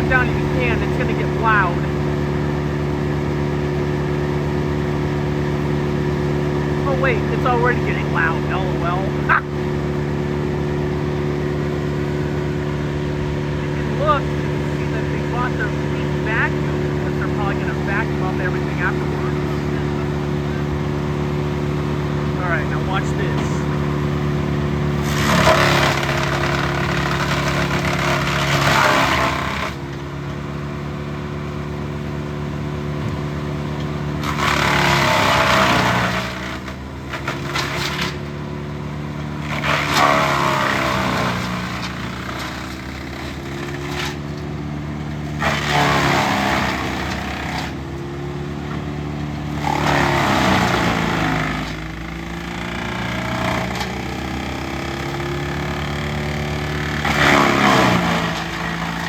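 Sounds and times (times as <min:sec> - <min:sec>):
chipping branches: 0:00.0 - 0:59.0
wood chipper engine running: 0:00.0 - 0:59.0.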